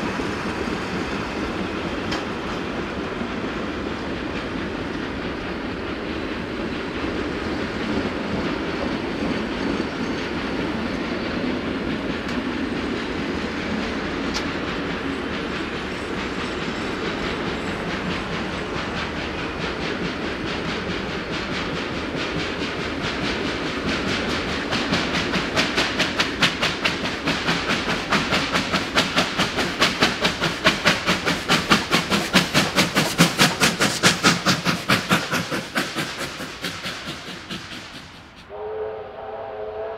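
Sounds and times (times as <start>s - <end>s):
train wheels rumbling on rails: 0.0s - 38.6s
steam locomotive exhaust beat: 0.0s - 39.9s.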